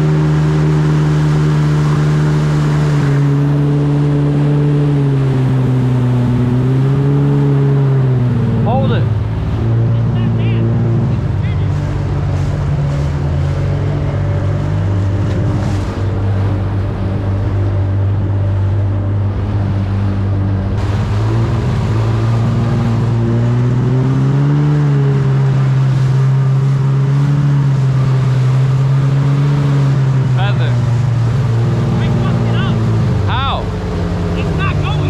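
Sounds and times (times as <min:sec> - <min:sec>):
jet ski engine running: 0:00.0 - 0:35.0
water rushing past hull: 0:00.0 - 0:35.0.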